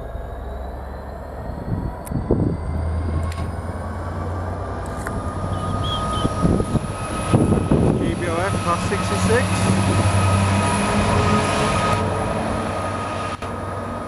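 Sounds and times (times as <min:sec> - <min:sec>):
locomotive engine hum: 0:00.0 - 0:14.0.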